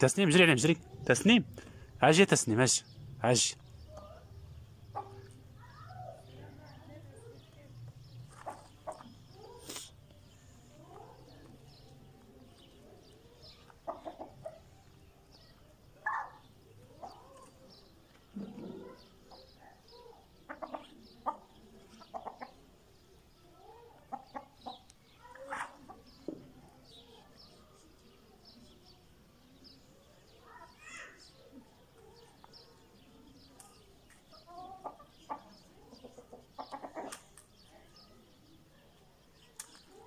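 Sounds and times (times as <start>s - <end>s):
chickens clucking: 0.3s - 28.5s, 31.3s - 40.0s.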